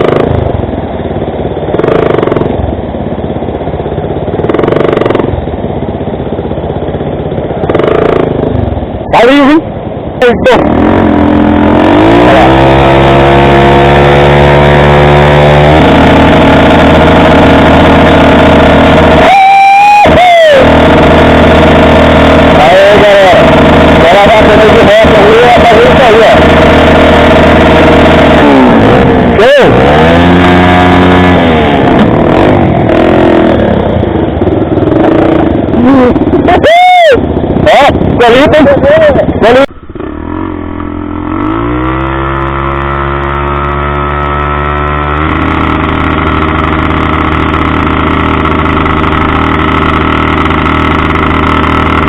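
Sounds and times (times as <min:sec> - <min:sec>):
motorcycle engine running: 0:00.0 - 0:52.0
high held tone: 0:07.0 - 0:52.0.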